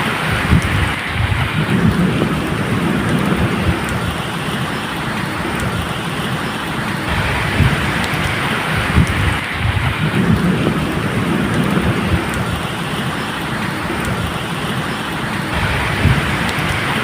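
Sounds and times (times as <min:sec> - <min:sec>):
low rumbling thunder: 0:00.0 - 0:05.9, 0:07.1 - 0:14.7, 0:15.5 - 0:17.0
rain falling: 0:00.0 - 0:17.0.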